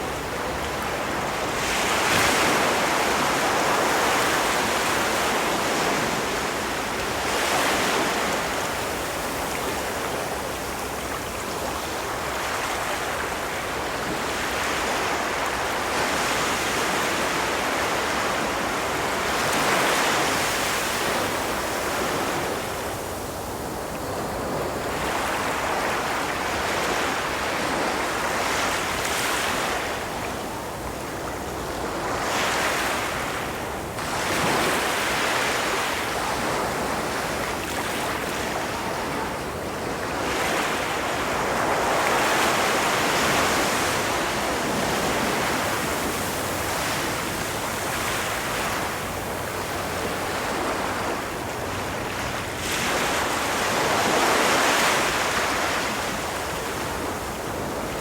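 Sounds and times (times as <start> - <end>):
waves breaking on a beach: 0.0 - 58.0
wind: 0.0 - 58.0.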